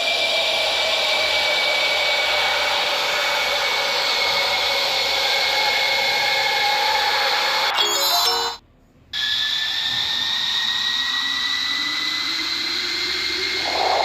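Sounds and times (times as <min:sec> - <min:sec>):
jet engine whine: 0:00.0 - 0:07.8, 0:09.2 - 0:14.0.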